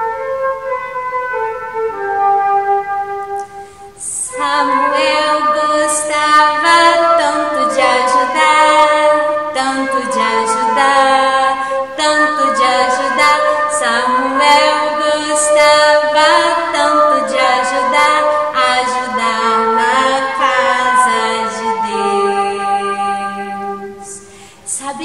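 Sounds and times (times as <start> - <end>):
woman singing unaccompanied: 4.0 - 25.0.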